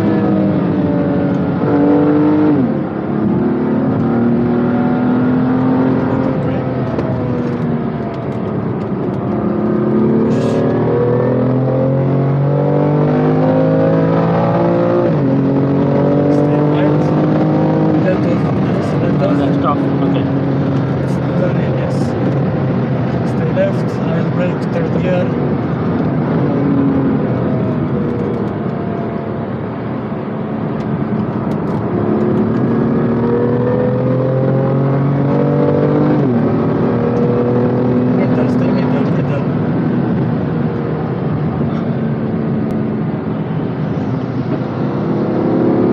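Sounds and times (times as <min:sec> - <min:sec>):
car engine accelerating: 0:00.0 - 0:45.9
road and tyre noise: 0:00.0 - 0:45.9
gear change: 0:05.1 - 0:12.2, 0:13.0 - 0:45.9.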